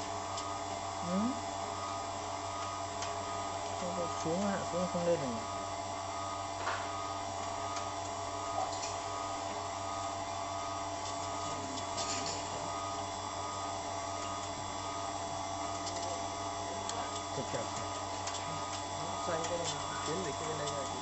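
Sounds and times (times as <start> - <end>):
grinding machine motor whine: 0.0 - 21.0.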